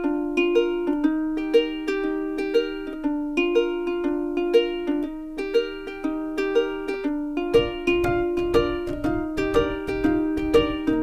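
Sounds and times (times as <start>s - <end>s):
plucked string tune: 0.0s - 11.0s.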